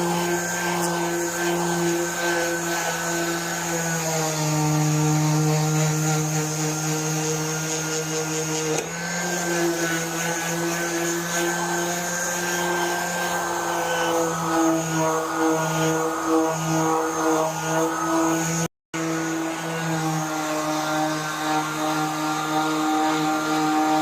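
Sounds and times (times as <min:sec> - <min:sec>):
electric grinder grinding metal: 0:00.0 - 0:24.0.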